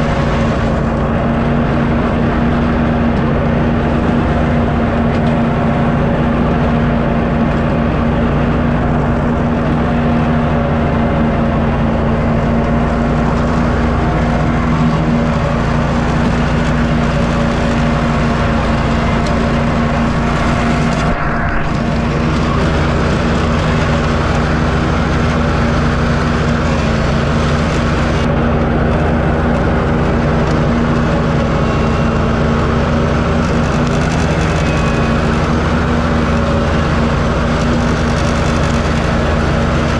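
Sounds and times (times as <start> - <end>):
mower deck cutting grass: 0.0 - 39.9
riding mower engine running: 0.0 - 39.9.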